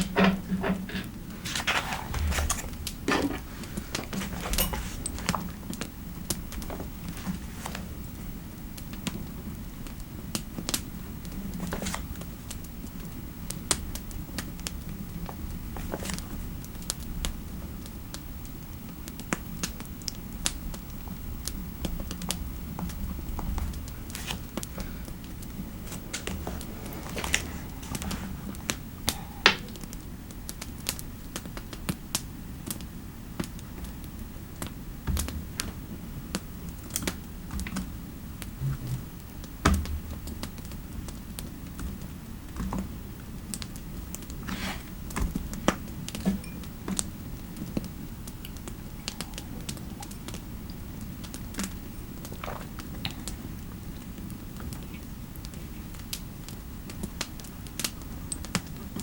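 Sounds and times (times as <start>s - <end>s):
fireplace hum and crackles: 0.0s - 59.0s.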